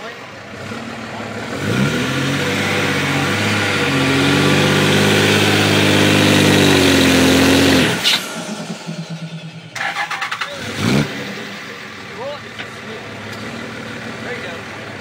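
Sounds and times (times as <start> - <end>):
truck engine revving high: 0.0 - 15.0.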